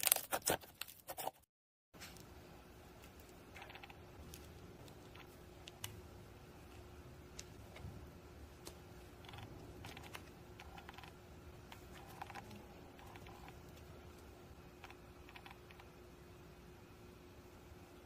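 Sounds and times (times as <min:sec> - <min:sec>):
faint steady hum: 0:02.0 - 0:18.0.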